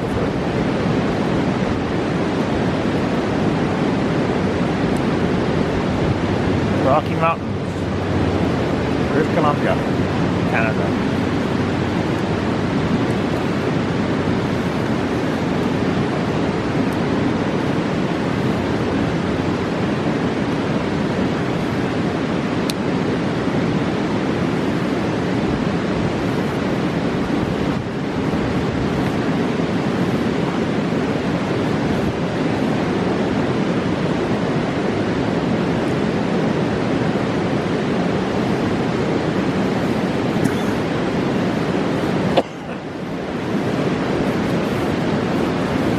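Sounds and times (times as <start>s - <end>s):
fast-flowing river rushing: 0.0s - 45.9s.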